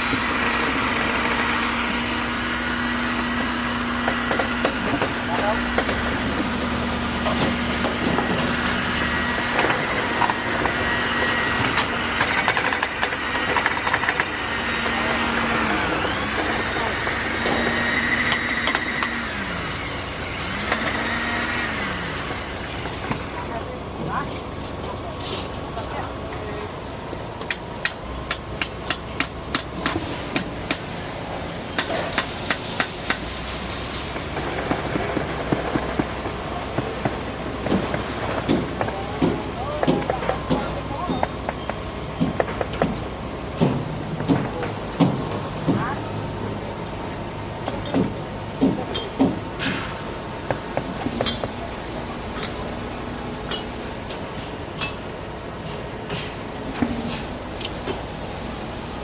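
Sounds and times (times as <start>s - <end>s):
machinery engine running: 0.0s - 59.0s.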